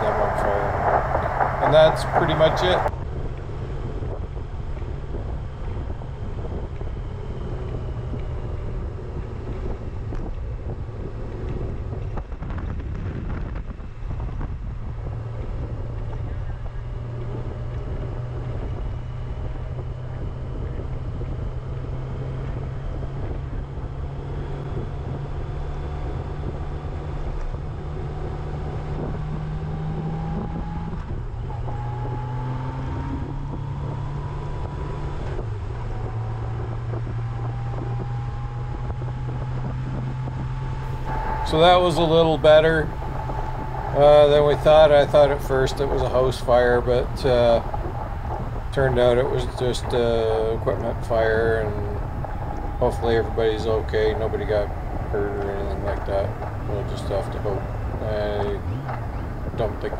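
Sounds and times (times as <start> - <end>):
motorcycle engine: 0.0 - 59.9
wind buffeting microphone: 0.0 - 59.9.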